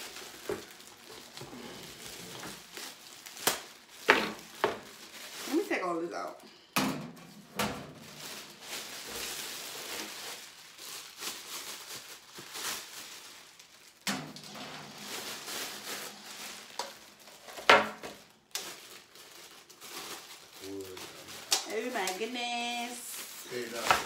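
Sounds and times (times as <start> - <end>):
plastic bags rustling and crinkling: 0.0 - 24.0.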